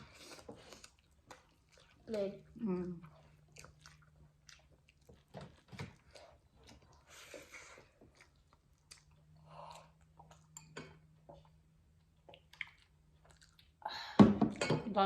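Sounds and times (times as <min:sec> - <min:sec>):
people chewing food: 0:00.0 - 0:14.6.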